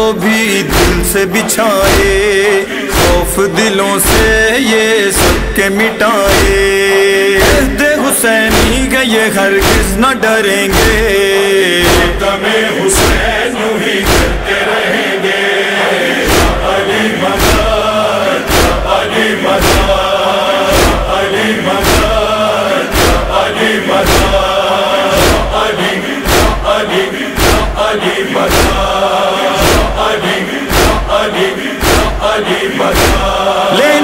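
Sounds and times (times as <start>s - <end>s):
chorus of voices chanting: 0.0s - 34.0s
heavy even beat: 0.0s - 34.0s.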